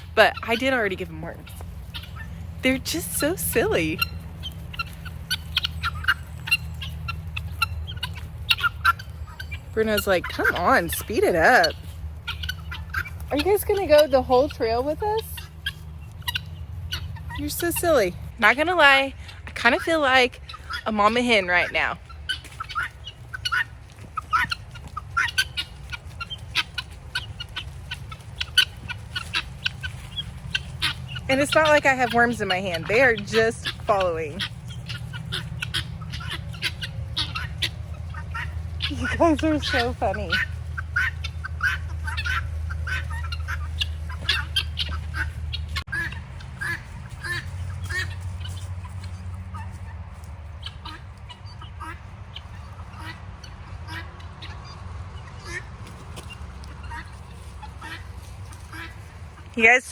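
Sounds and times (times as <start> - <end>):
guinea fowl chirping: 0.0 - 59.6
steady low rumble: 0.0 - 59.9.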